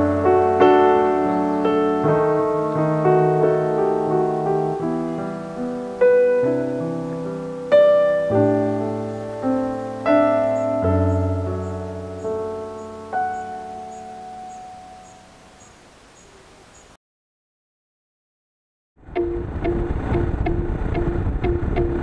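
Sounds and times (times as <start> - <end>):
slow gentle piano music: 0.0 - 15.8, 19.2 - 22.0.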